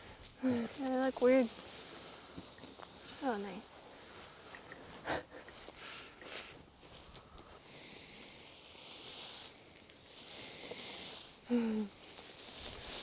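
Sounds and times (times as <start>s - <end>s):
hay rustling and crackling: 0.0s - 13.0s.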